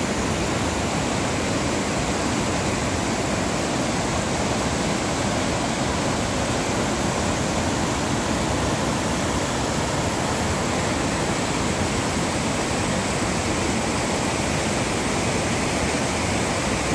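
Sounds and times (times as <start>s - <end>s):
creek rushing over boulders: 0.0s - 16.9s.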